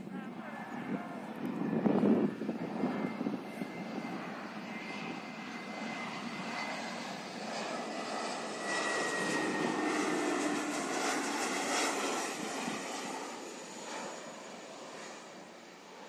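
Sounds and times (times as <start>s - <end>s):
jet airliner engines: 0.0s - 16.0s.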